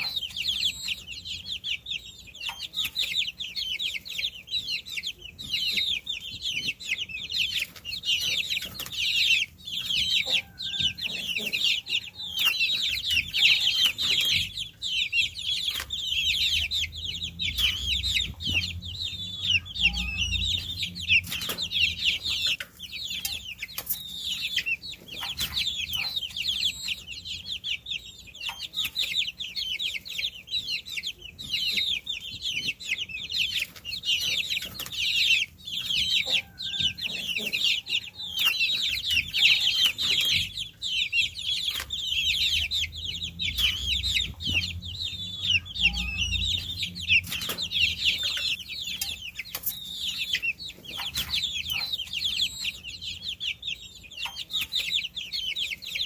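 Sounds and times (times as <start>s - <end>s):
baby chicks peeping: 0.0s - 56.0s.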